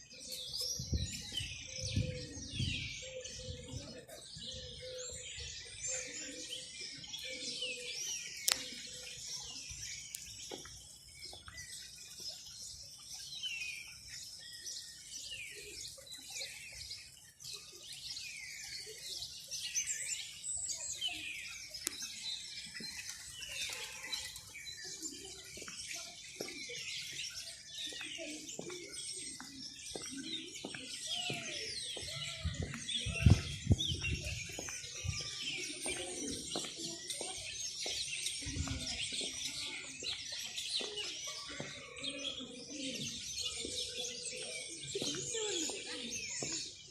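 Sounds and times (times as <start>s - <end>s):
flock of small birds chirping: 0.0s - 46.9s.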